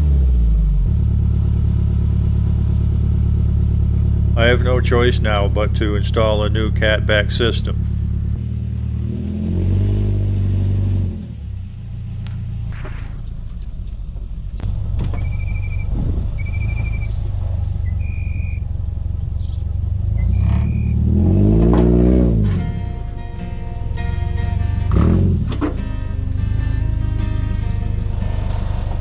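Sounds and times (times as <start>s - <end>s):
car engine revving: 0.0s - 29.0s
low exhaust drone: 0.0s - 29.0s.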